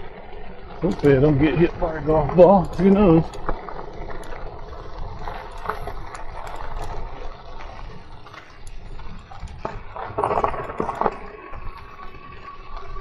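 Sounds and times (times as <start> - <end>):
small clicks and rattles: 0.0 - 13.0
tyres rolling over gravel: 0.0 - 13.0.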